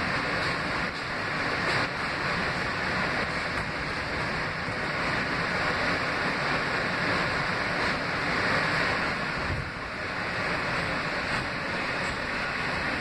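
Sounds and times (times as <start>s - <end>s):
subway wheels rumbling on rails: 0.0s - 13.0s.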